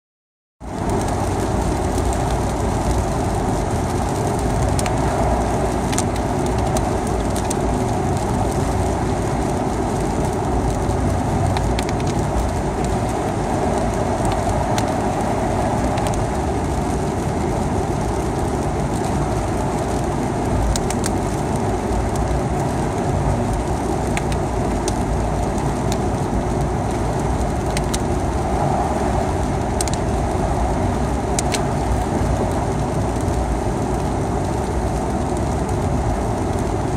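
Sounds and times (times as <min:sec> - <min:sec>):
road noise on wet highway: 0:00.6 - 0:36.9
raindrops ticking: 0:00.7 - 0:36.9.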